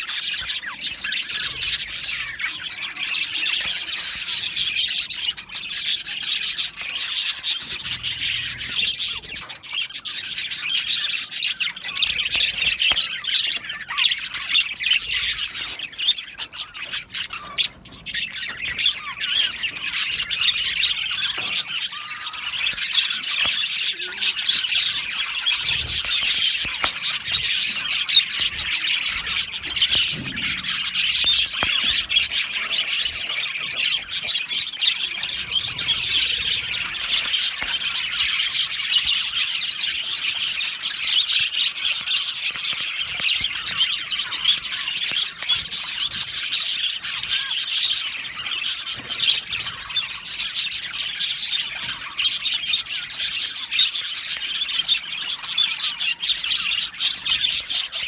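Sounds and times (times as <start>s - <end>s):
budgies chattering and squawking: 0.0s - 58.0s.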